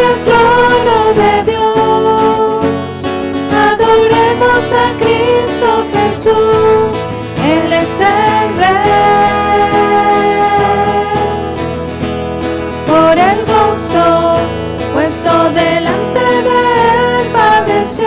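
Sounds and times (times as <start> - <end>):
voices singing together: 0.0 - 11.8, 12.8 - 18.0
acoustic guitar: 0.0 - 18.0.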